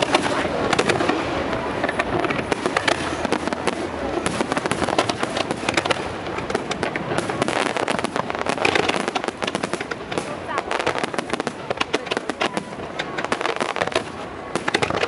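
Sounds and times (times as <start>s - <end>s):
fireworks bursting and crackling: 0.0s - 15.0s.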